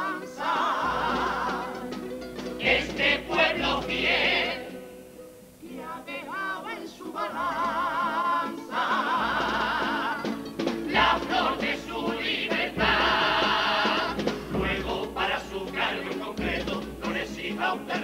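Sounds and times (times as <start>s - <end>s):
male chorus singing in harmony: 0.0s - 2.0s, 2.6s - 4.9s, 5.6s - 18.0s
guitar accompaniment: 0.0s - 6.0s, 6.7s - 18.0s.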